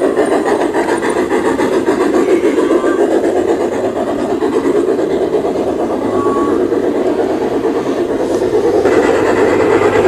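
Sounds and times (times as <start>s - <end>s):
model train wheels clattering on rails: 0.0s - 10.0s.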